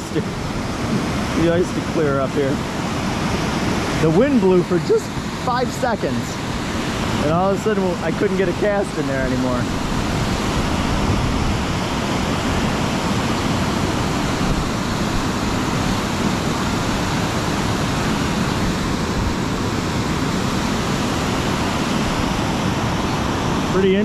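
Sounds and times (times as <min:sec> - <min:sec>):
fast river water rushing: 0:00.0 - 0:24.0.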